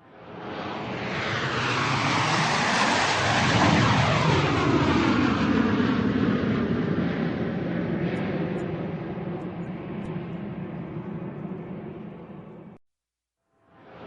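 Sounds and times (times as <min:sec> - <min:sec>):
airplane flying overhead: 0:00.0 - 0:12.8, 0:13.7 - 0:14.0.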